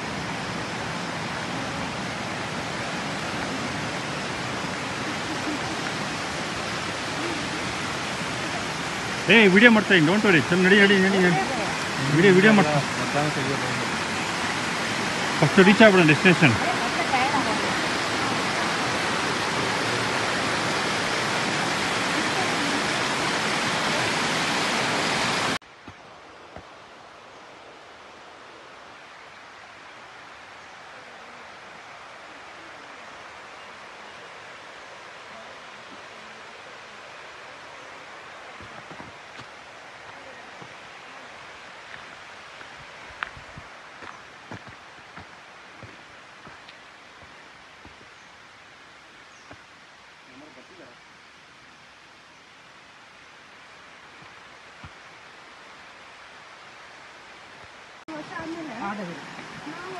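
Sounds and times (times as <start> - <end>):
steady rushing hiss: 0.0 - 59.9.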